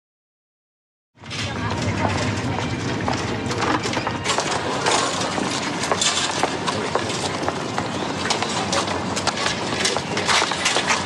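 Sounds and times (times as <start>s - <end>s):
constant wash of street noise: 1.2s - 11.0s.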